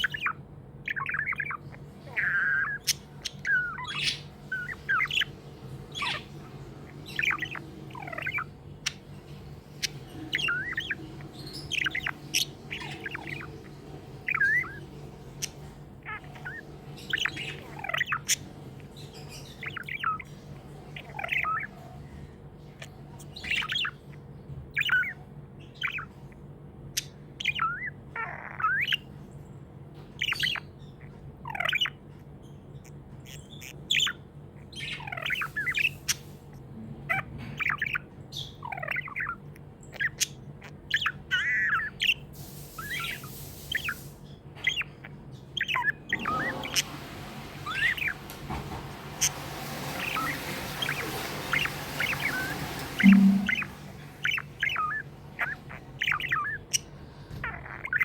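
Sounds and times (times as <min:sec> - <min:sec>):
budgerigars chirping: 0:00.0 - 0:29.2, 0:30.0 - 0:58.0
steady low hum: 0:00.0 - 0:58.0.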